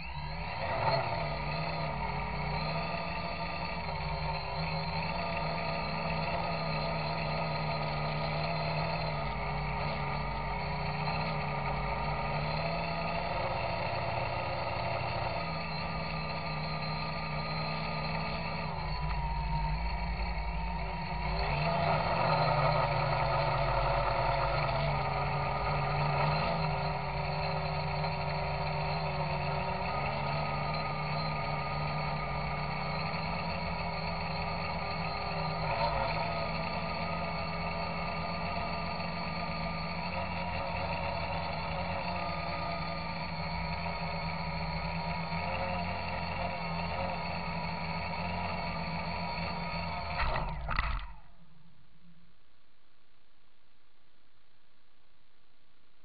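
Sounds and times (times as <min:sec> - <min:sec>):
drone motors and propellers whirring: 0:00.0 - 0:51.6.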